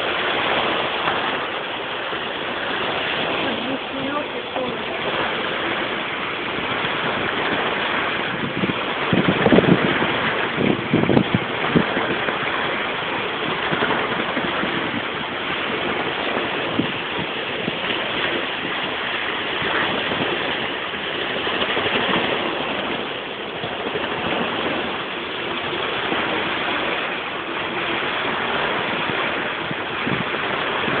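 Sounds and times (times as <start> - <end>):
water rushing: 0.0 - 31.0
wind buffeting microphone: 0.0 - 31.0.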